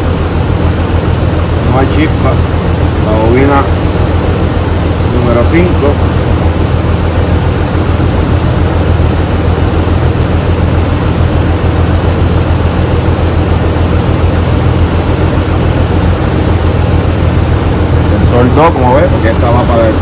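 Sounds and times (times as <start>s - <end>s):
car engine idling with misfire: 0.0s - 20.0s.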